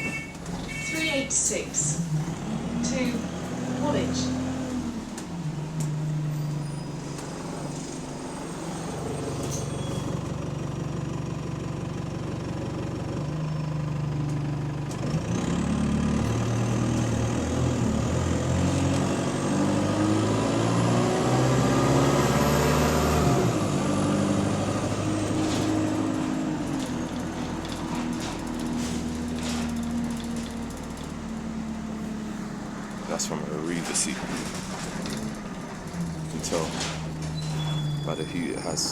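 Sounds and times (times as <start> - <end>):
diesel bus engine: 0.0 - 38.9.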